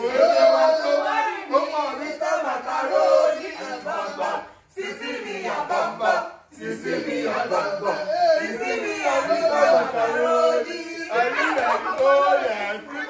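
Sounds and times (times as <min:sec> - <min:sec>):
group singing and chanting: 0:00.0 - 0:13.0.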